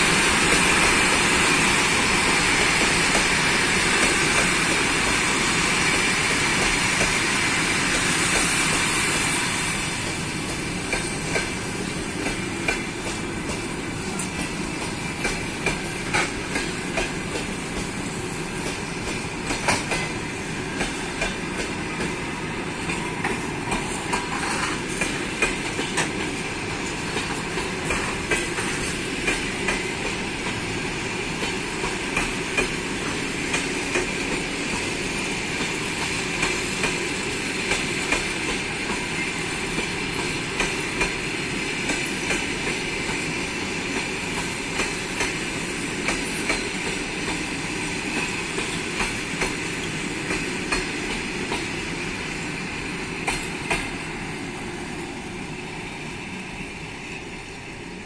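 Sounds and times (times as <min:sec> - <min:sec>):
train wheels clicking over rail joints: 0:00.0 - 0:56.1
train rolling rumble: 0:00.0 - 0:58.0.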